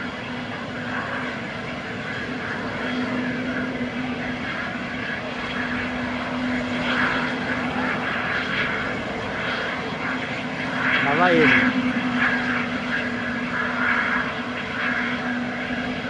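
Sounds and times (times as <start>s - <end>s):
jet engines at taxi power: 0.0s - 16.0s.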